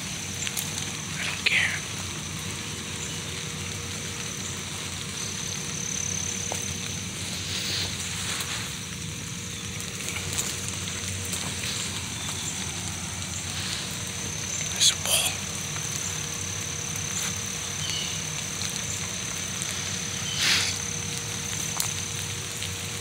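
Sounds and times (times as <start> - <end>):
heavy rain in woodland: 0.0 - 23.0.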